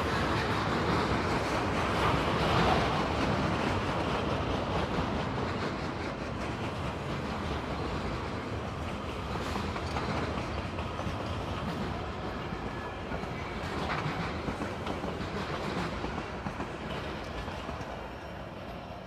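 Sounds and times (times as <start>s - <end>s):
train wheels clacking on rails: 0.0s - 19.0s.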